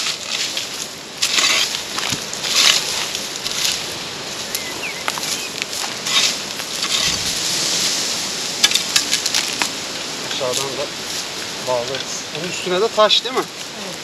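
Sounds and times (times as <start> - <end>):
netting rustling and crackling: 0.0 - 11.9.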